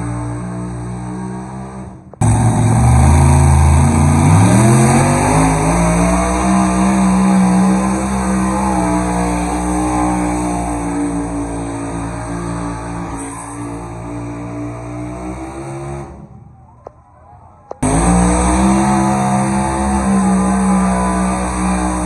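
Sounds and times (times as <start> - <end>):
tractor engine revving under load: 0.0 - 16.3, 17.7 - 22.0.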